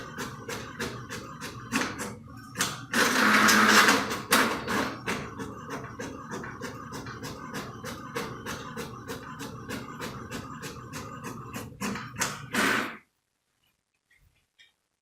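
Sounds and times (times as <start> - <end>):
inkjet printer clicking: 0.0 - 12.8
printer whirring: 0.0 - 13.0.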